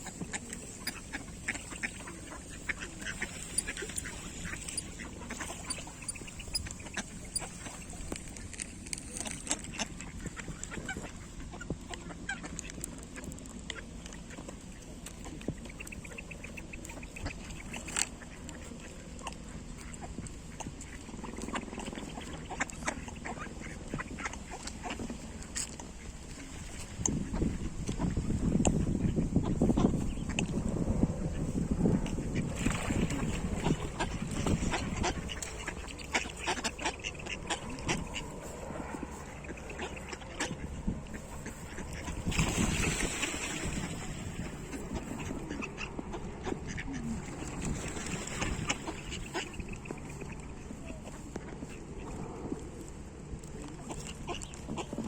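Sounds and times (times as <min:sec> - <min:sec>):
ducks and geese calling: 0:00.0 - 0:28.2, 0:32.2 - 0:55.0.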